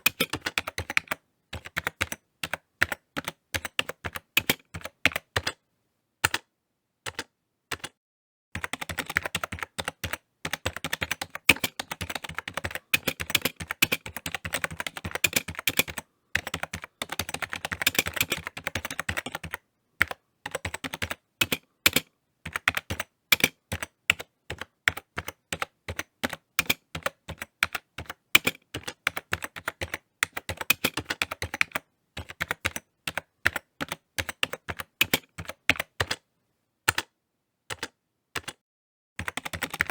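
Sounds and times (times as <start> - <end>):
typing on computer keyboard: 0.0 - 5.6, 6.2 - 6.5, 7.1 - 8.0, 8.6 - 36.2, 36.9 - 38.6, 39.2 - 39.9.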